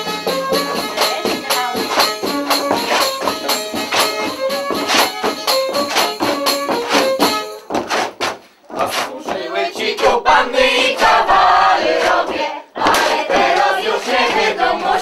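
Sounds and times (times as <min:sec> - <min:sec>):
fiddle playing dance tune: 0:00.0 - 0:15.0
percussion beat: 0:00.0 - 0:15.0.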